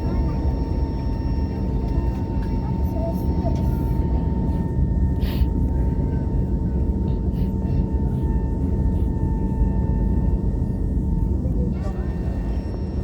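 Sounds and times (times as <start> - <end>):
jet engine and airflow rumble: 0.0 - 13.0
thin steady whine: 0.0 - 13.0.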